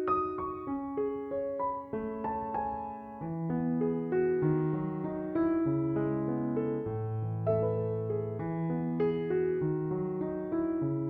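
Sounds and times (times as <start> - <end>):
keyboard tune with piano-like notes: 0.0 - 11.0.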